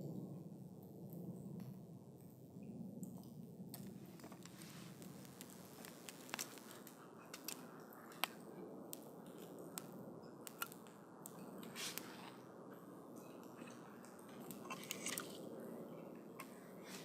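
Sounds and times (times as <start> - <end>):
burning wood crackles and pops: 0.0 - 17.0
campfire flame rushing: 3.2 - 17.0.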